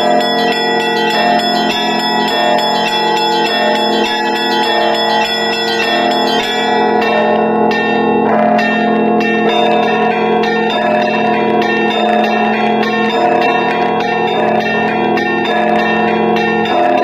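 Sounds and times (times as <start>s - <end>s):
deep bell strike: 0.0s - 17.0s
large church bells ringing: 0.0s - 17.0s
small church bells ringing: 0.0s - 17.0s.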